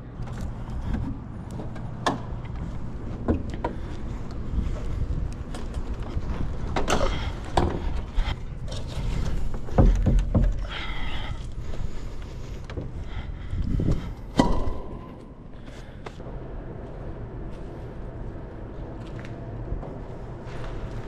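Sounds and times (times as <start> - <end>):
low handling rumble: 0.0 - 21.0.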